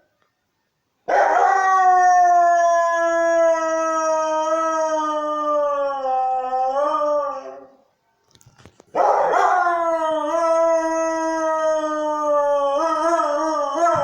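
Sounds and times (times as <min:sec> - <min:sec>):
husky howling: 0:01.1 - 0:07.8, 0:09.0 - 0:14.0.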